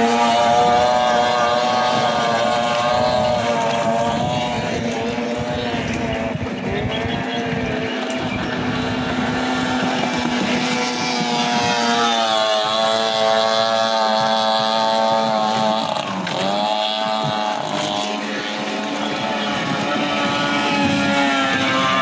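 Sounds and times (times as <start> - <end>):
outboard engines running: 0.0 - 22.0.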